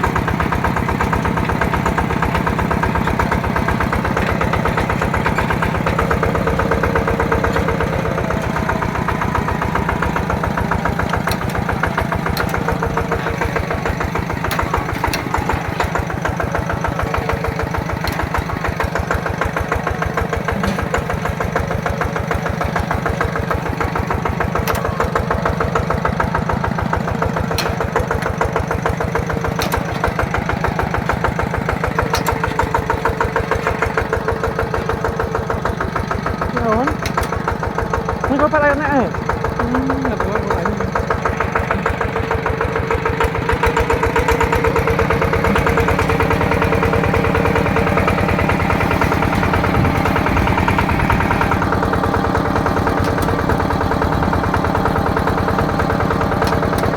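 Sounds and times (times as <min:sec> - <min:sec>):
single-cylinder diesel engine running: 0:00.0 - 0:56.9.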